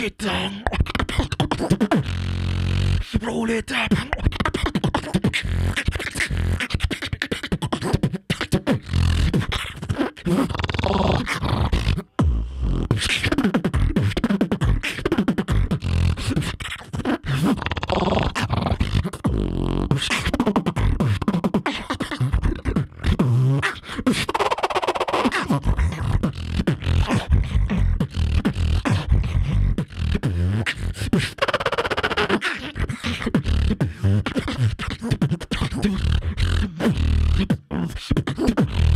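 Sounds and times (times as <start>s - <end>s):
human beatbox through microphone: 0.0s - 38.9s.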